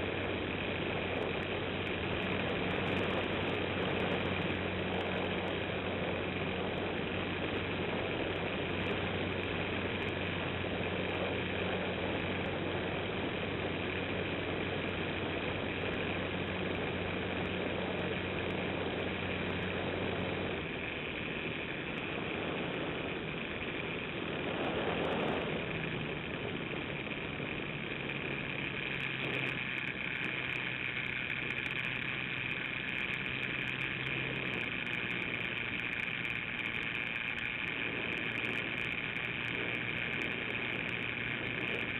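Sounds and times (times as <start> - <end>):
model plane motor drone: 0.0 - 41.9.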